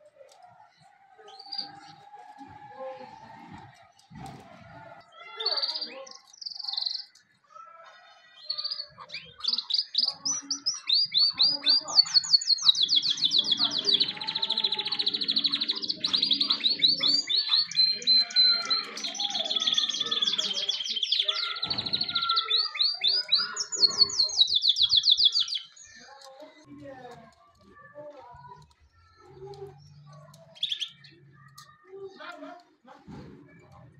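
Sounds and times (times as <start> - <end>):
canary singing trills: 0.3 - 4.2, 5.0 - 32.8.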